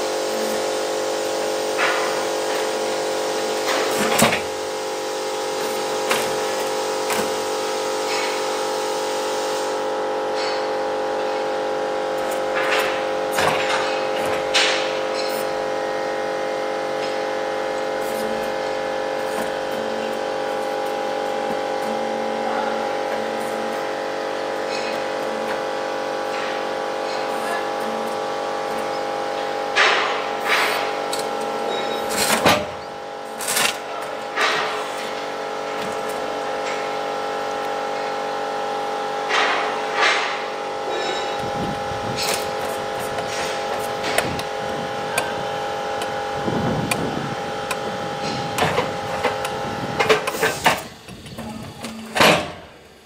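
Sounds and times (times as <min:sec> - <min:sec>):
sawmill humming: 0:00.0 - 0:53.0.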